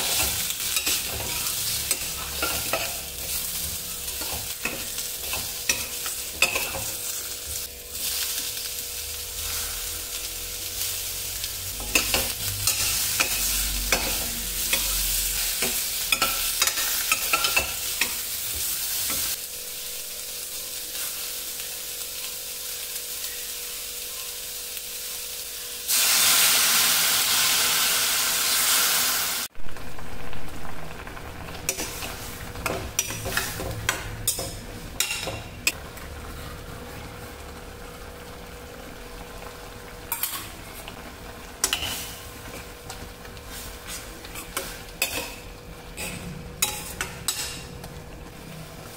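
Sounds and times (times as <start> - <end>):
food frying in hot oil: 0.0 - 48.9.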